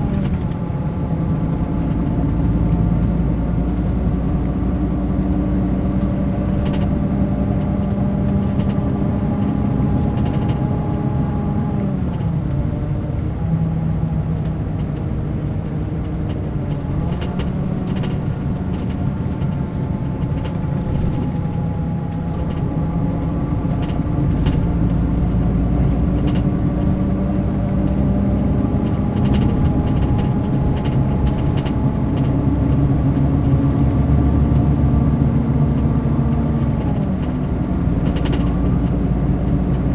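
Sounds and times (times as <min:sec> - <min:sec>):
coach diesel engine running: 0:00.0 - 0:39.9.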